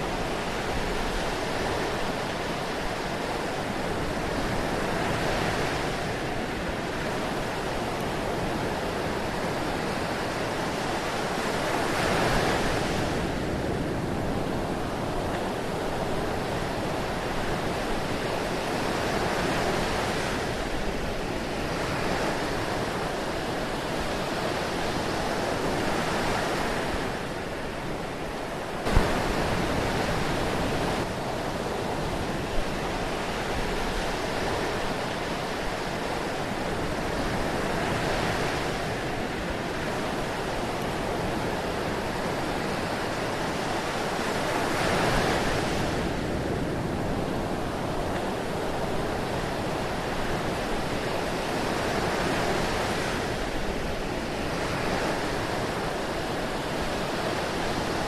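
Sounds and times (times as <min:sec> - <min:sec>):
ocean waves washing: 0:00.0 - 0:58.0.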